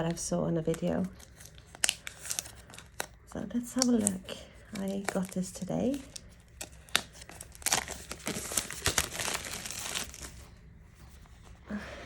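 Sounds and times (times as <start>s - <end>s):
packaging crinkling and tearing: 0.0s - 10.5s.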